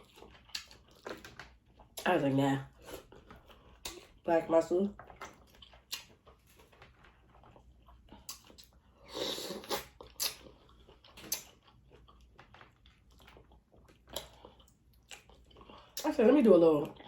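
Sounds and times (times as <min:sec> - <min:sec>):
chewing and mouth smacks: 0:00.0 - 0:02.0, 0:02.8 - 0:04.3, 0:04.9 - 0:09.0, 0:09.6 - 0:16.1.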